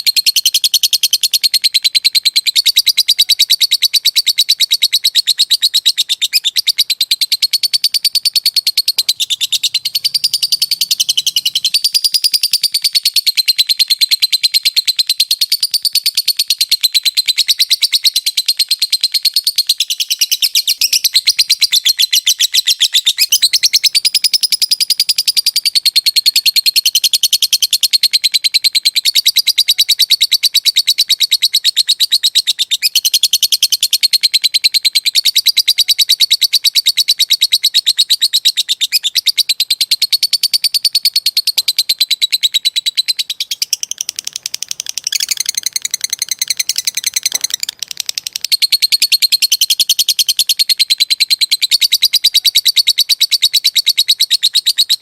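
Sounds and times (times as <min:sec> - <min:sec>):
bird chattering trill: 0:00.0 - 0:55.0.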